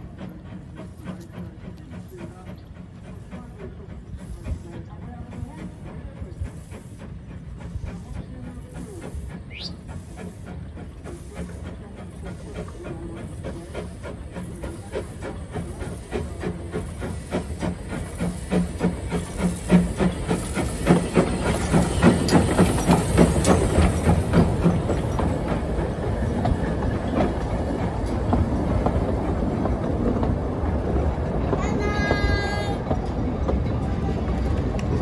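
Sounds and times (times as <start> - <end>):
steam hissing: 0.0 - 32.9
steam locomotive exhaust beats: 0.0 - 35.0
train wagons rumbling: 0.0 - 35.0.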